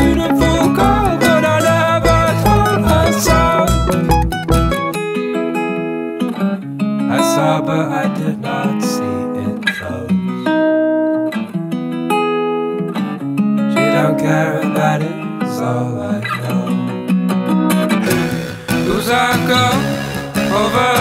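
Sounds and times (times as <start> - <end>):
acoustic guitar plucking and strumming: 0.0 - 21.0.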